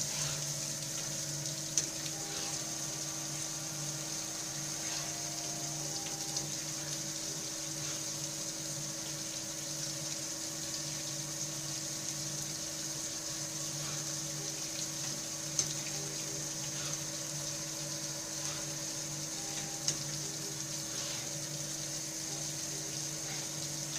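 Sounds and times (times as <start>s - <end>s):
lathe humming and whining: 0.0s - 9.6s, 10.2s - 23.9s
coolant liquid flowing: 0.0s - 23.9s.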